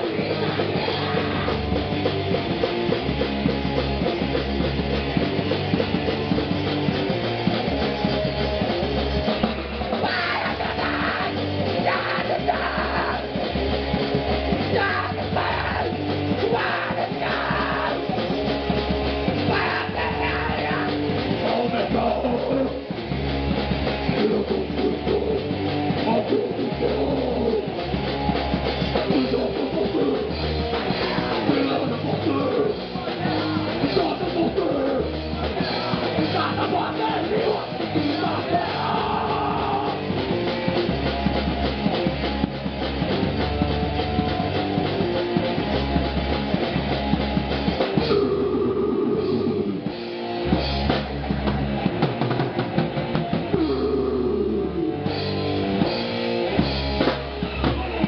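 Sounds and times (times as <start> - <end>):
drum kit: 0.0 - 58.0
electric guitar: 0.0 - 58.0
punk band playing live: 0.0 - 58.0.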